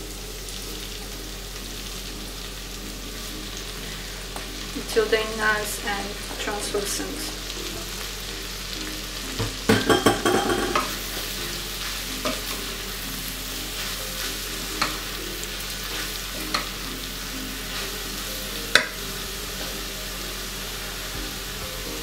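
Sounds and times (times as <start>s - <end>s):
leeks sizzling in butter: 0.0s - 22.0s.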